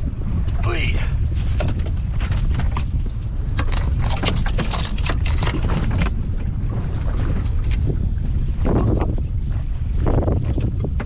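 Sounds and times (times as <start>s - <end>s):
boat engine low rumble: 0.0s - 11.0s
wind on microphone: 0.0s - 11.0s
knocks and scrapes in boat: 0.4s - 11.0s.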